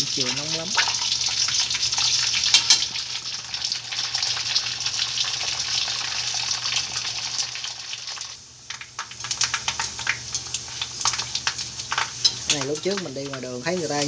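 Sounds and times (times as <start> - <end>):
pork skin deep-frying in oil: 0.0 - 14.0.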